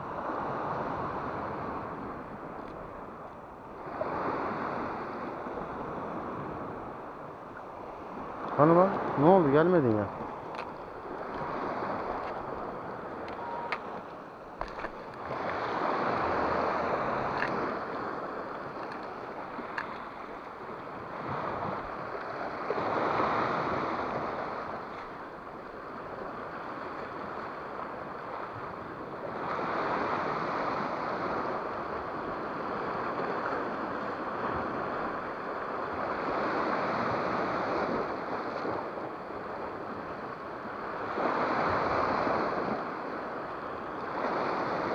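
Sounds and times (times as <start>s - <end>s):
wind on microphone: 0.0s - 44.9s
waves washing against rocks: 7.8s - 44.9s.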